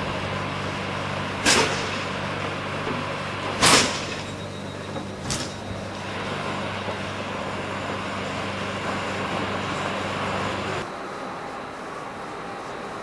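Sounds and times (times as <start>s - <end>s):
busy station ambience: 0.0s - 13.0s
train humming: 0.0s - 13.0s.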